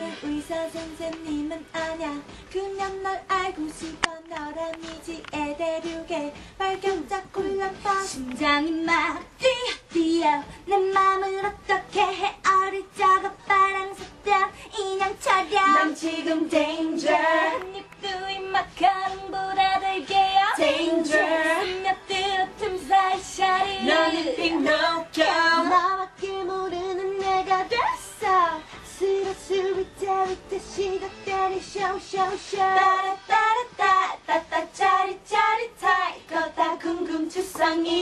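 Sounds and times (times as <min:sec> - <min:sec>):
backing music: 0:00.0 - 0:38.0
women singing into microphones: 0:00.0 - 0:38.0.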